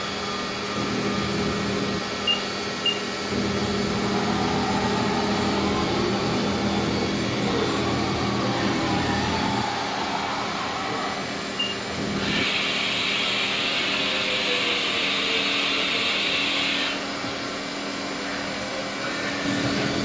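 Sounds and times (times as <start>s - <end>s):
machine drives whining: 0.0s - 20.0s.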